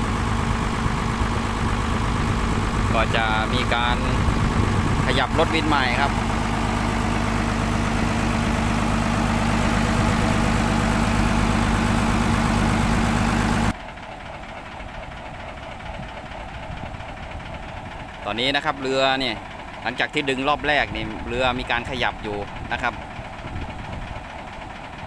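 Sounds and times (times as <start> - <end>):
engine running loud: 0.0 - 25.0.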